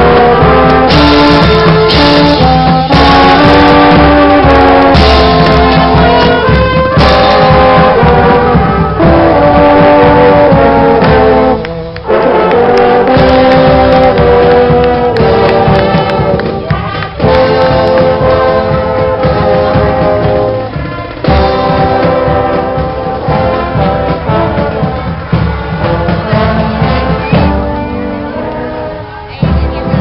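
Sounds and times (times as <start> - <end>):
brass band playing chords: 0.0 - 30.0.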